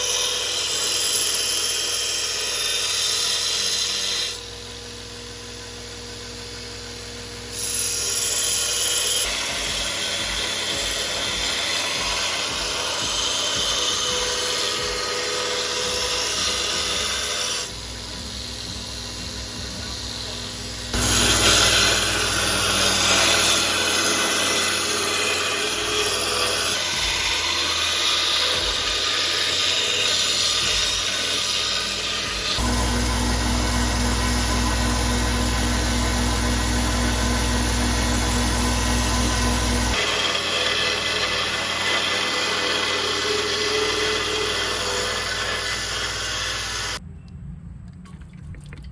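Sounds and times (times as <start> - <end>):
power tool grinding knife blade: 0.0 - 47.0.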